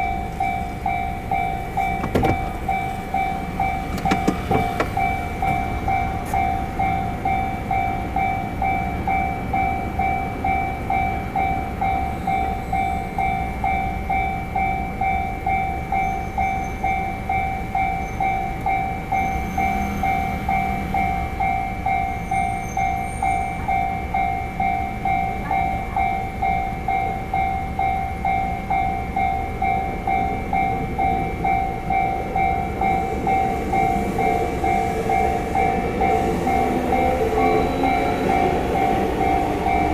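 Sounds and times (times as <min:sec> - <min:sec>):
level crossing warning bell: 0:00.0 - 0:39.9
trains rumbling: 0:00.0 - 0:39.9.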